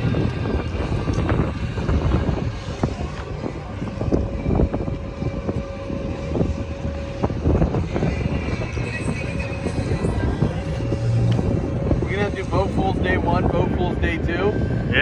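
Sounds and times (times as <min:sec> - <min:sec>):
faint steady hum: 0:00.0 - 0:15.0
vehicle rumble: 0:00.0 - 0:15.0.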